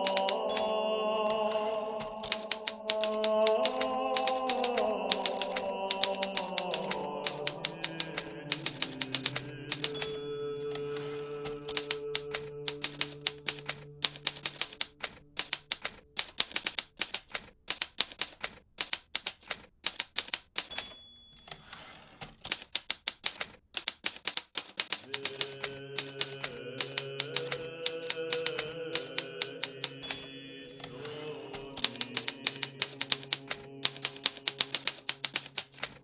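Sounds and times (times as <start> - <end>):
typewriter carriage return sliding: 0.0 - 0.7, 1.3 - 30.2, 30.8 - 36.0
typewriter keys striking: 0.0 - 36.0
typewriter margin bell: 0.0 - 36.0.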